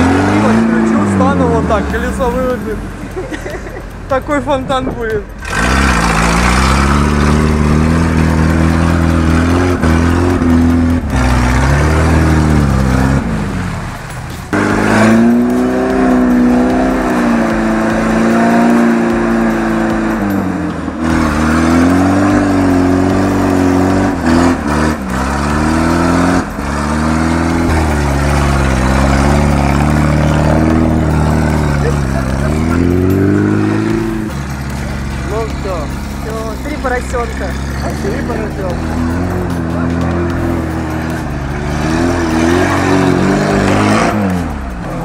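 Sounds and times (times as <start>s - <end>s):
engine revving hard: 0.0s - 2.8s, 5.4s - 45.0s
wheels churning through mud: 0.0s - 45.0s.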